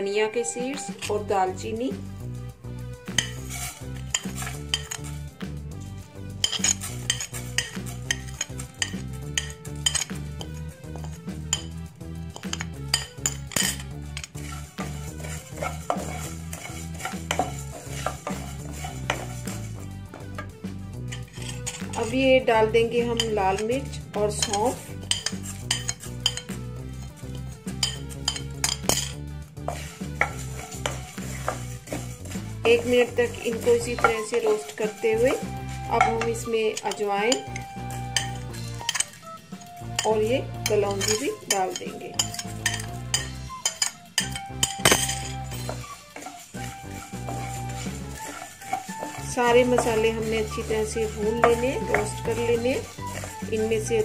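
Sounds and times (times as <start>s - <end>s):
soft background music: 0.0s - 54.0s
spatula scraping seeds in pan: 0.4s - 54.0s.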